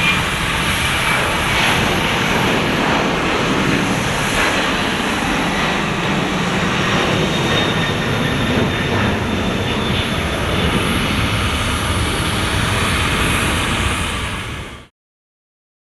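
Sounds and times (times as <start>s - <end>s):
jet engines at takeoff power: 0.0s - 14.9s.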